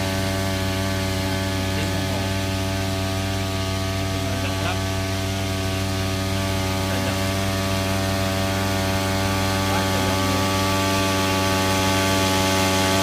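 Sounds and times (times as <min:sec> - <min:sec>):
small engine running at high speed: 0:00.0 - 0:13.0.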